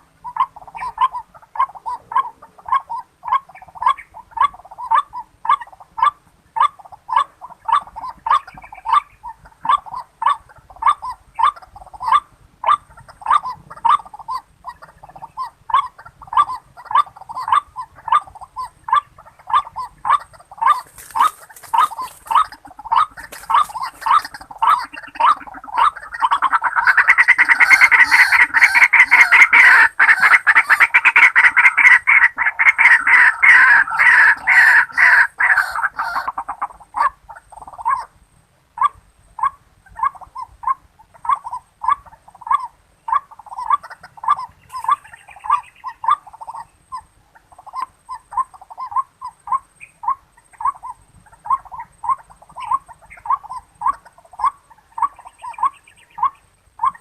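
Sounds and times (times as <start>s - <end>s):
waterhen calling: 0.0s - 57.0s.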